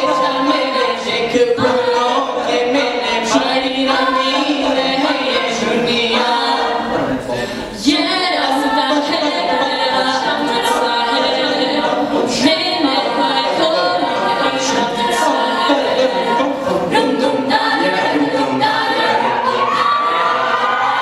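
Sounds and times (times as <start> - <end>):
a cappella group singing in harmony: 0.0 - 21.0.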